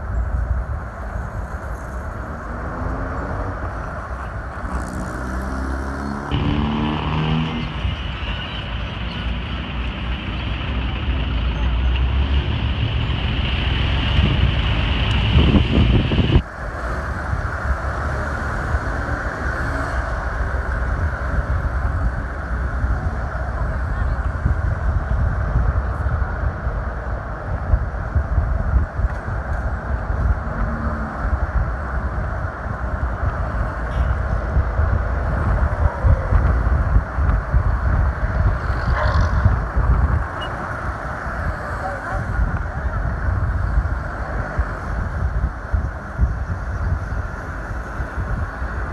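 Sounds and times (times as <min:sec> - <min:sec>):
car engine and road rumble: 0:00.0 - 0:48.9
wind buffeting microphone: 0:06.3 - 0:48.9.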